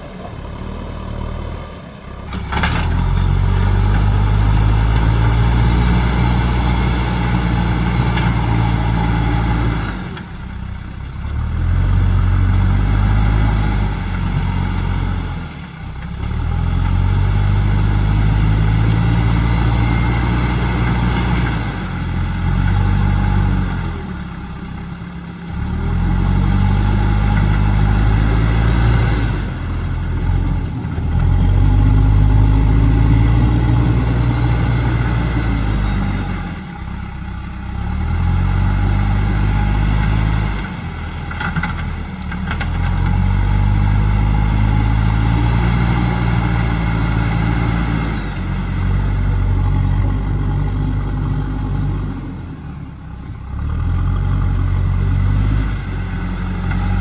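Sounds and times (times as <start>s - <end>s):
loader bucket pushing through soil: 0.0s - 10.6s, 11.2s - 57.0s
diesel engine under load: 0.0s - 57.0s.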